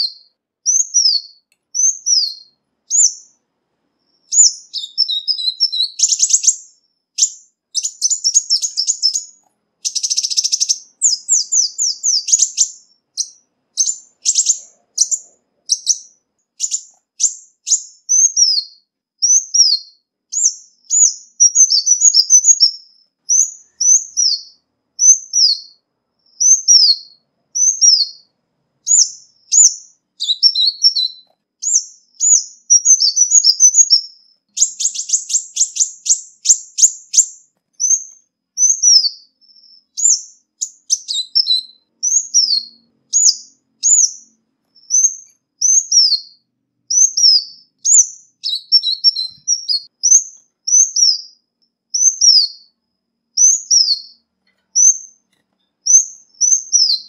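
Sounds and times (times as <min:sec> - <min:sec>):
bird rapid trill: 0:00.0 - 0:03.4, 0:04.0 - 0:51.4, 0:52.0 - 0:52.7, 0:54.8 - 0:57.0
bird twittering runs: 0:00.0 - 0:03.4, 0:04.0 - 0:28.3, 0:28.9 - 0:51.4, 0:54.8 - 0:57.0.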